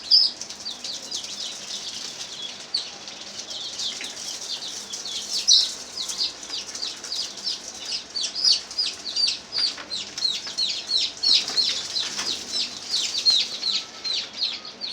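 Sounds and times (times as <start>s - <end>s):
chicks peeping: 0.0s - 14.9s.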